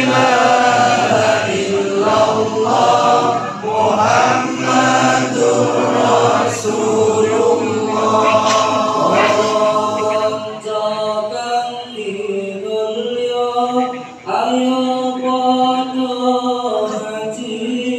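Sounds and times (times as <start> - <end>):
men chanting in unison: 0.0 - 17.9.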